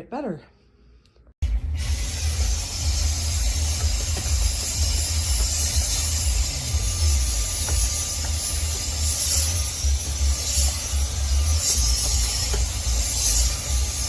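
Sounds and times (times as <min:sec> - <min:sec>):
cordless vacuum running: 0:01.4 - 0:14.0.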